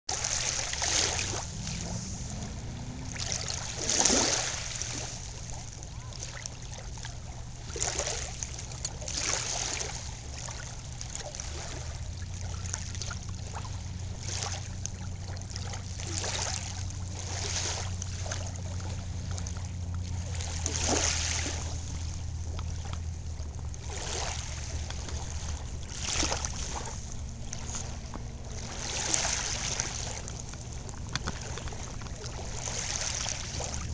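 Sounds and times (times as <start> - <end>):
waves lapping on sandy shore: 0.1 - 33.9.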